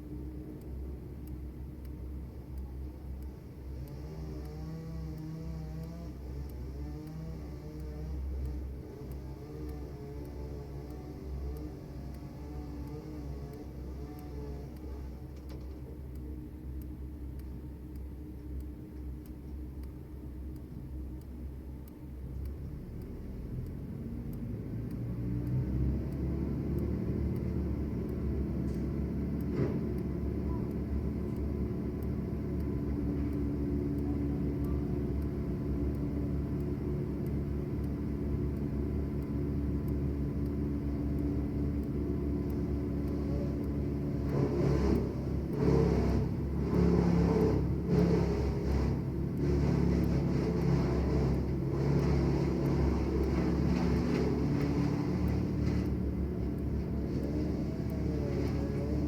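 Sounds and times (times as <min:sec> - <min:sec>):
engine running at low pitch: 0:00.0 - 0:59.0.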